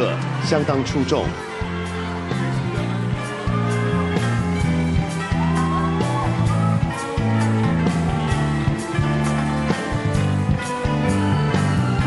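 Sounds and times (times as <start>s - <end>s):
bass notes: 0.0s - 12.0s.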